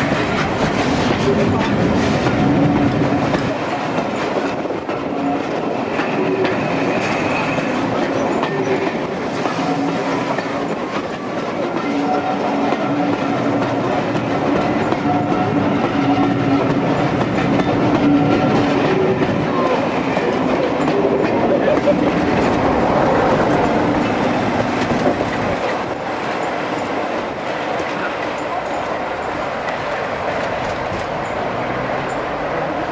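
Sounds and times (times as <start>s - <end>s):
train wheels clattering over rail joints: 0.0s - 32.3s.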